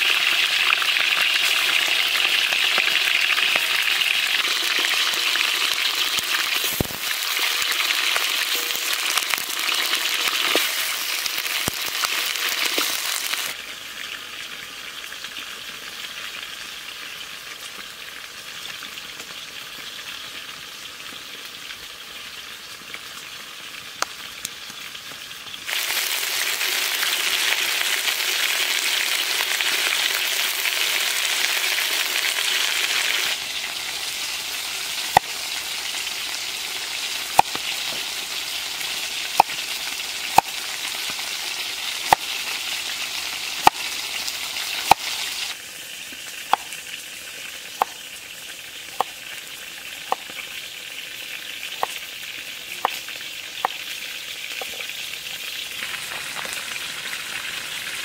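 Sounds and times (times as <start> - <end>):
chicken sizzling in a wok: 0.0 - 58.0.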